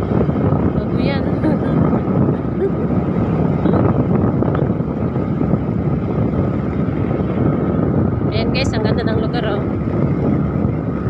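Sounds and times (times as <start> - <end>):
motorcycle engine: 0.0 - 11.0
wind rushing over microphone: 0.0 - 11.0.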